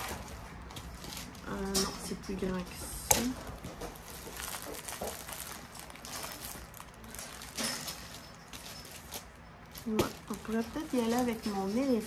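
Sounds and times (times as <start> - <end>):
plastic sleeves rustling: 0.0 - 12.0.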